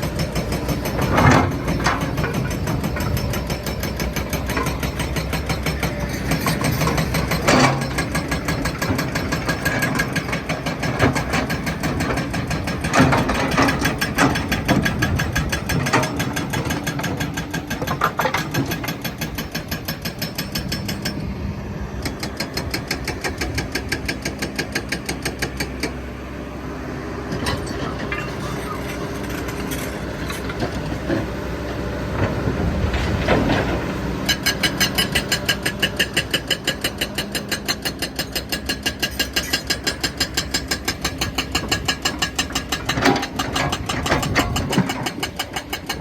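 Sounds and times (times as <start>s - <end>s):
excavator diesel engine clattering: 0.0s - 46.0s.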